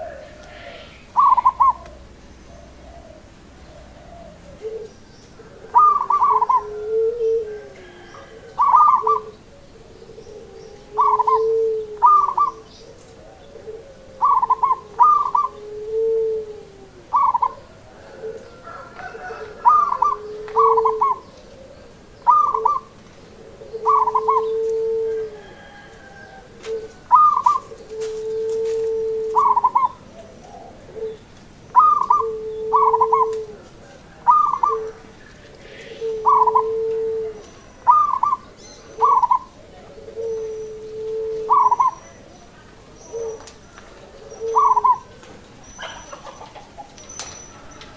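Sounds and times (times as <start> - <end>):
dove cooing song: 0.0 - 47.9.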